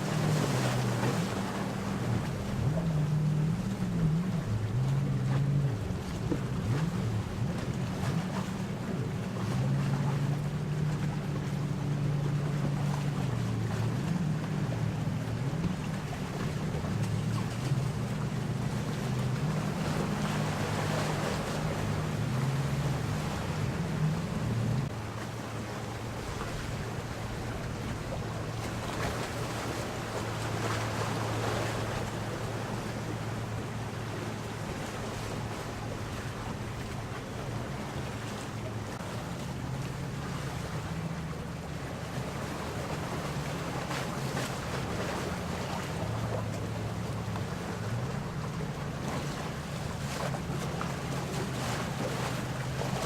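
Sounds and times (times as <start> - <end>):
motorboat engines droning: 0.0 - 53.0
water noise: 0.0 - 53.0
wind: 0.0 - 53.0.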